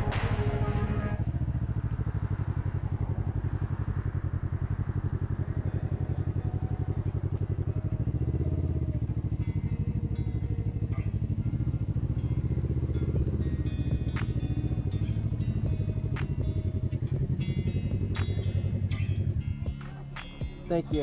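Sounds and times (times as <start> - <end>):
motorcycle engine at low revs: 0.0 - 21.0.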